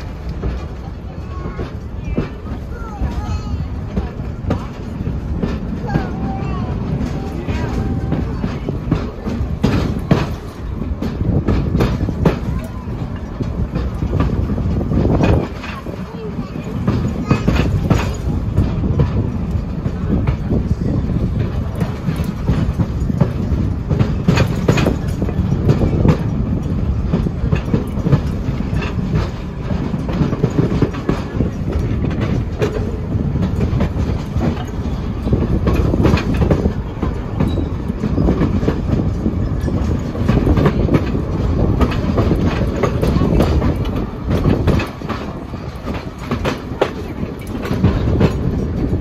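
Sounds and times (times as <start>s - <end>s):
steel wheels rumbling on rail: 0.0s - 49.0s
wheels clicking over track: 0.0s - 49.0s.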